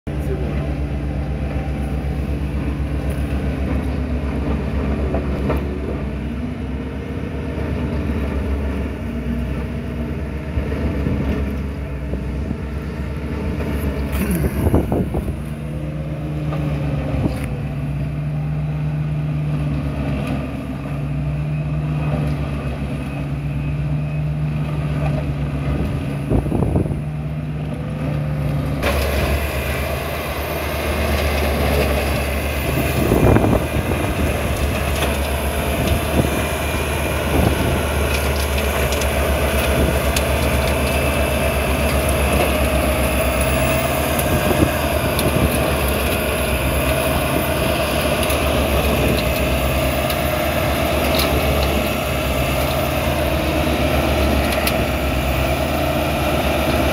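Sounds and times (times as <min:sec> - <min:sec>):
diesel engines running: 0:00.0 - 0:56.9.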